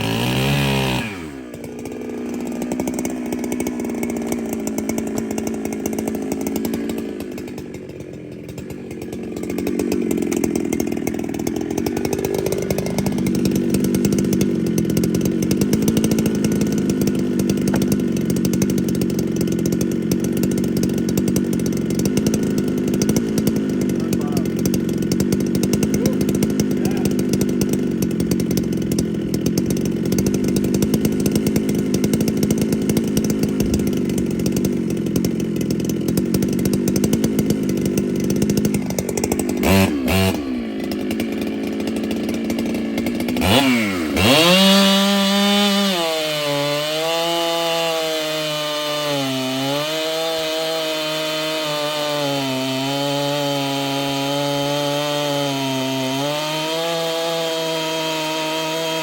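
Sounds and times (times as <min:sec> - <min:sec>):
chainsaw cutting: 0:00.0 - 0:59.0.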